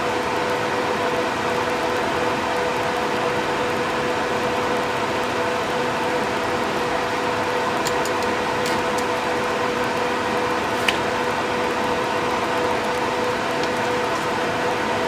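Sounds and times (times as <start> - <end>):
ventilation fans humming: 0.0 - 15.0.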